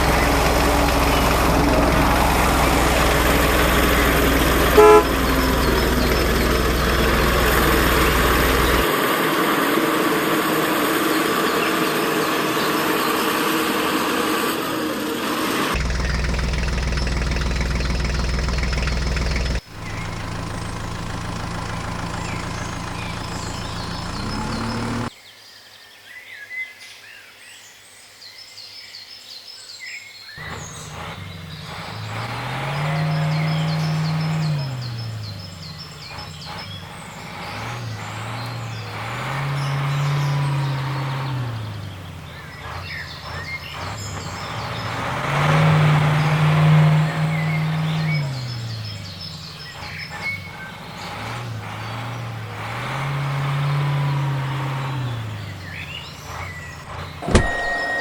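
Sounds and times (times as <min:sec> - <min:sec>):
birds chirping: 0:00.0 - 0:14.5, 0:15.7 - 0:26.5, 0:28.6 - 0:58.0.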